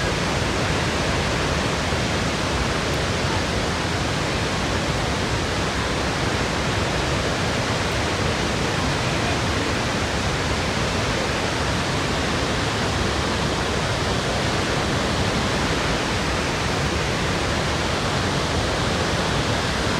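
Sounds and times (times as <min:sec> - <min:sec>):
waterfall roaring: 0:00.0 - 0:19.9.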